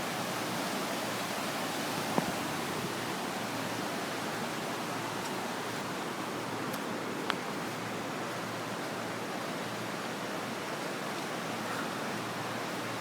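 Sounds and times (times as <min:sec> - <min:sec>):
rushing floodwater: 0:00.0 - 0:13.0.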